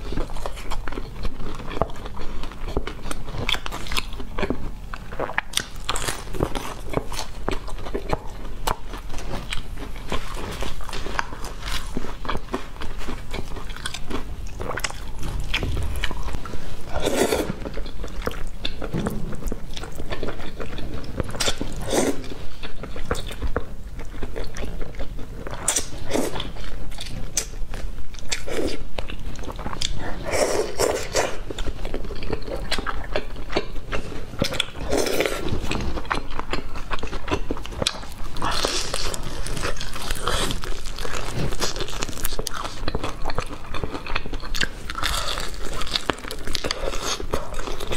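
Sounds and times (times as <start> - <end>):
crunchy bites and wet chewing: 0.1 - 47.9.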